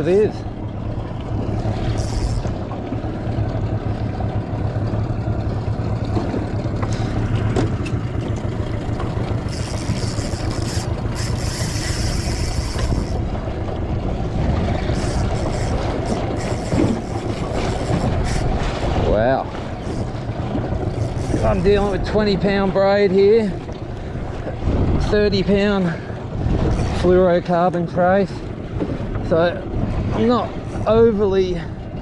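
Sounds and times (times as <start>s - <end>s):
outboard motor humming: 0.0s - 32.0s
water and wind noise: 0.0s - 32.0s.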